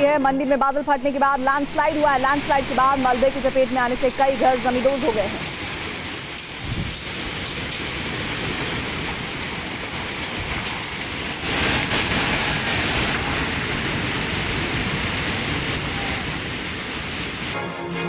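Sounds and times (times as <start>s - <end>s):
landslide debris rushing rumble: 1.5s - 17.6s.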